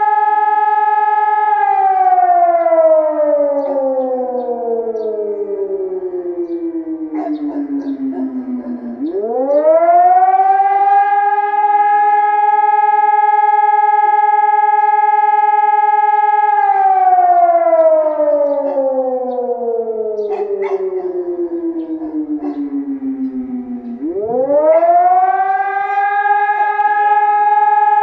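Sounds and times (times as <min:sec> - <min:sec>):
civil defense siren wailing: 0:00.0 - 0:28.0.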